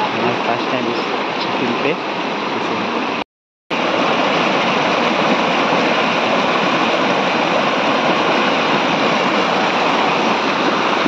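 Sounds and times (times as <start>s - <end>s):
river rushing over boulders: 0.0s - 11.0s.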